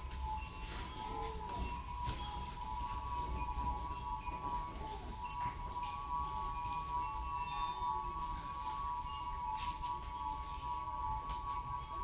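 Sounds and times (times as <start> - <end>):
crystal glasses held tones: 0.2 - 12.0
glassy pings: 0.2 - 12.0.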